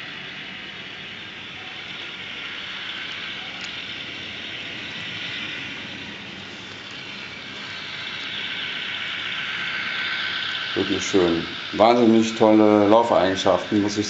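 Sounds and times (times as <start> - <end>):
diesel engine sound from small speaker: 0.0 - 14.0.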